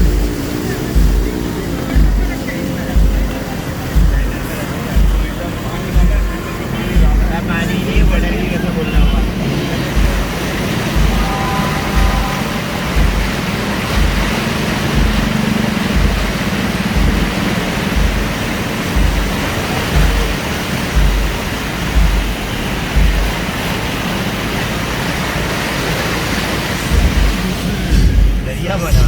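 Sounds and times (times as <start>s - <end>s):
low thumps: 0.0s - 24.6s, 26.9s - 29.0s
heavy rain hiss: 0.0s - 29.0s.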